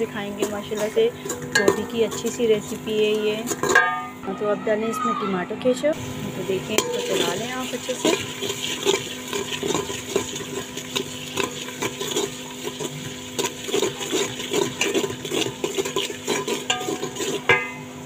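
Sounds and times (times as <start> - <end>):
spoon scraping and clinking on pot: 0.2 - 4.2, 6.8 - 17.9.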